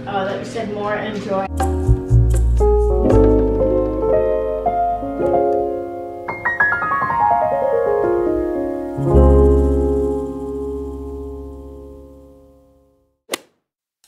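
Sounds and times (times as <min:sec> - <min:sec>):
piano music: 0:01.5 - 0:13.0.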